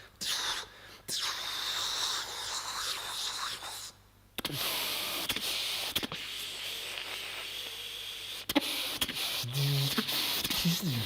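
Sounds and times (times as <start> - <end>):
mouth-made whirring hiss: 0.0 - 11.0.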